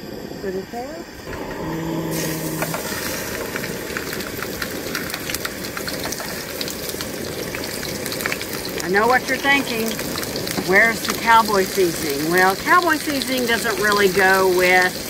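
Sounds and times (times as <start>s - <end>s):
gas burner rushing: 1.2s - 15.0s
chicken sizzling in hot oil: 1.3s - 15.0s.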